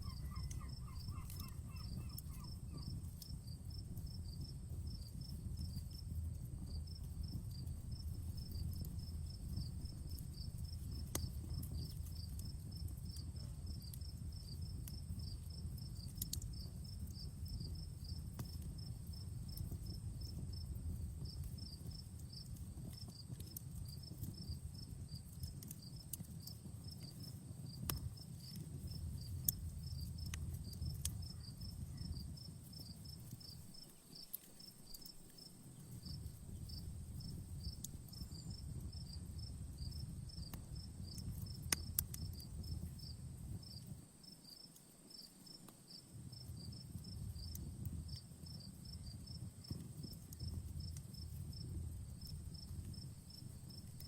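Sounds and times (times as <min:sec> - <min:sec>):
insects chirping: 0:00.0 - 0:05.8, 0:06.7 - 0:54.0
campfire crackling and popping: 0:00.0 - 0:54.0.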